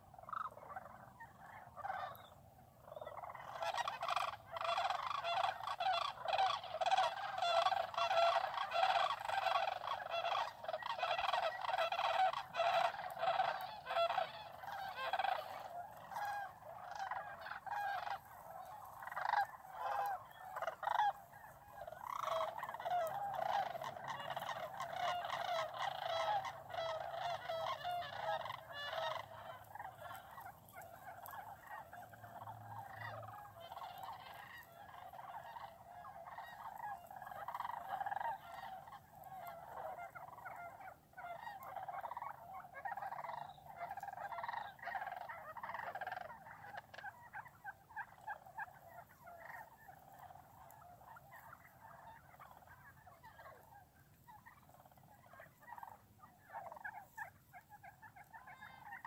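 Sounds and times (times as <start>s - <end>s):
sandhill cranes calling: 0.0s - 59.0s
wild turkeys calling: 0.0s - 59.0s.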